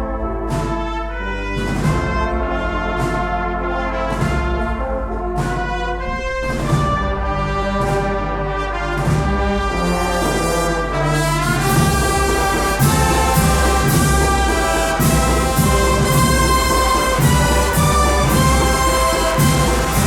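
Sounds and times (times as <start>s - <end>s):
brass band playing march: 0.0s - 20.0s
drum strokes: 0.0s - 20.0s.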